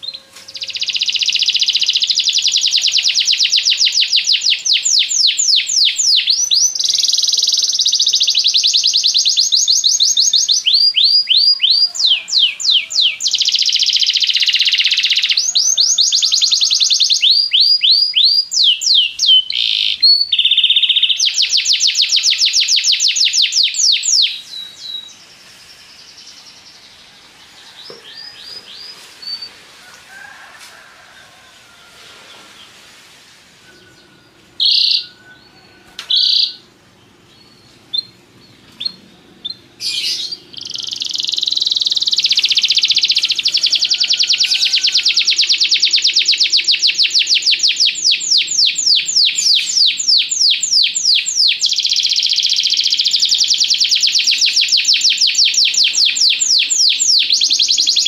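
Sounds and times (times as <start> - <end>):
canary singing rapid trills: 0.0 - 26.4, 33.8 - 36.7, 37.4 - 58.0.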